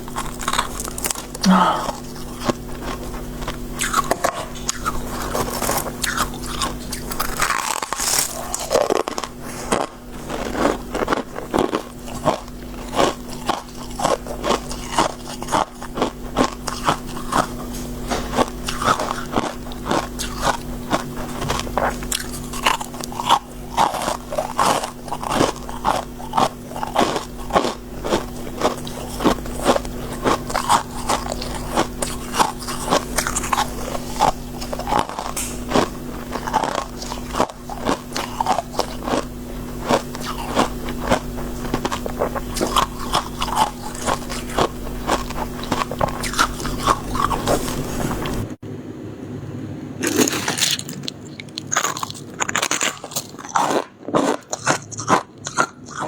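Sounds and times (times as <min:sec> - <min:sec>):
crunchy chewing of frost: 0:00.0 - 0:48.6, 0:50.0 - 0:56.0
faint steady hum: 0:00.0 - 0:56.0.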